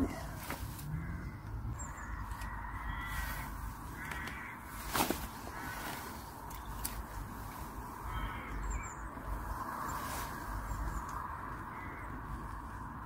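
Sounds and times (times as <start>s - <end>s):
bird calling: 0.0s - 7.0s, 8.0s - 12.2s
steady background noise: 0.0s - 13.0s.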